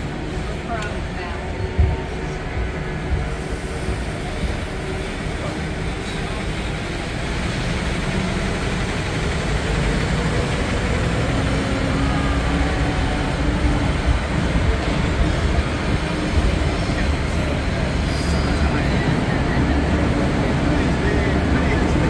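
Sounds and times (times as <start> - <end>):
tram engine and wheels rumbling: 0.0 - 22.0.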